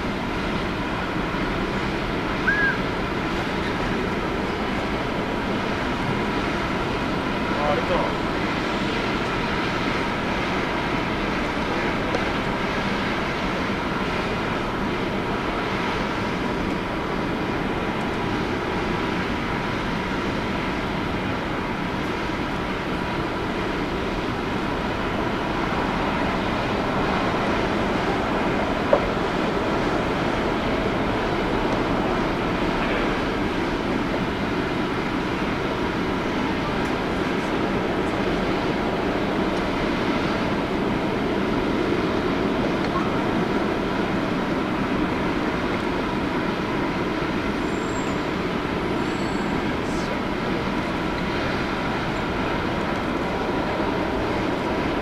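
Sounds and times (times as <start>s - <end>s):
faint steady whine: 0.0s - 55.0s
jet engines running: 0.0s - 55.0s.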